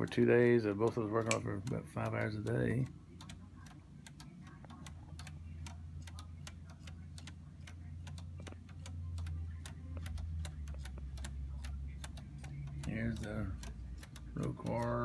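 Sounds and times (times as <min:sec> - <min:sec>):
clock ticking: 0:00.0 - 0:15.0
low steady hum: 0:00.0 - 0:15.0.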